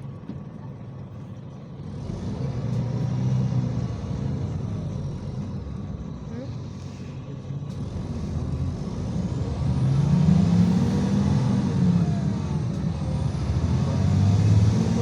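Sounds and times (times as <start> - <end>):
bus engine pulling away: 1.7 - 15.0.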